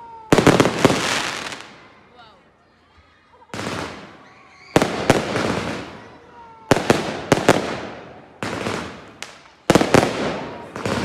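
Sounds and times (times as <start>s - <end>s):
fireworks bursting with sharp bangs: 0.0s - 2.0s, 3.5s - 11.0s.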